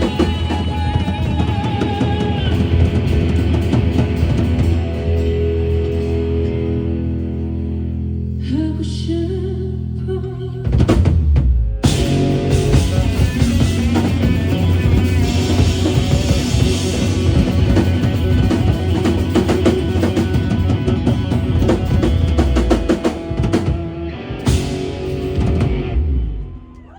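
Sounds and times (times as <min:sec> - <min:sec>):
live rock band playing: 0:00.0 - 0:08.3, 0:10.7 - 0:26.9.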